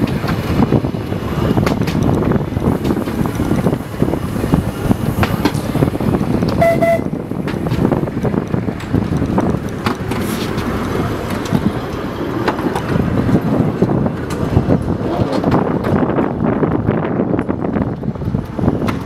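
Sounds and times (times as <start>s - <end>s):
tram wheels rattling over rails: 0.0s - 19.0s
wind buffeting microphone: 0.0s - 19.0s.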